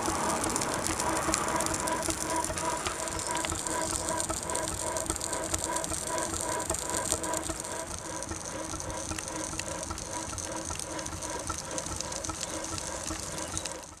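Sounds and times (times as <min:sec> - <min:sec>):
steam hissing: 0:00.0 - 0:13.5
steam engine beat: 0:00.0 - 0:14.0.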